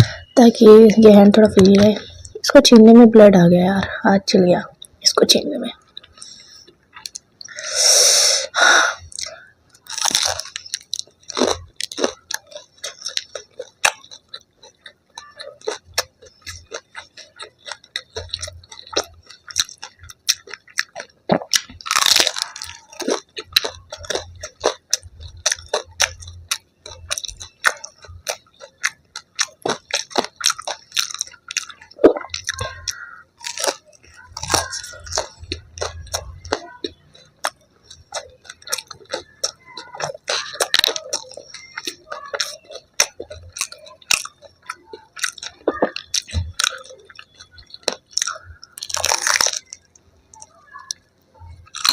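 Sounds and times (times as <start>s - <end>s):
chewing crunchy fried food: 4.7s - 51.9s.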